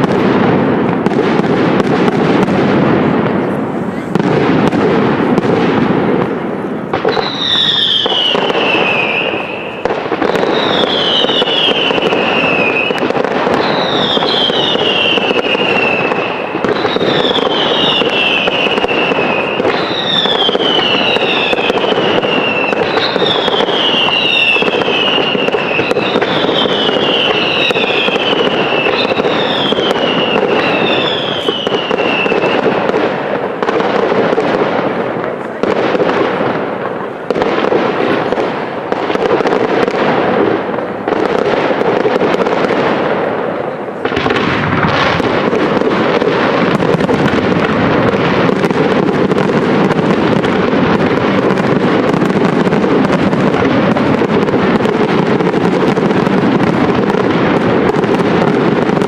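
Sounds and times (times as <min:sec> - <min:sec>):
fireworks crackling: 0:00.0 - 0:59.0
whistling fireworks: 0:00.0 - 0:59.0.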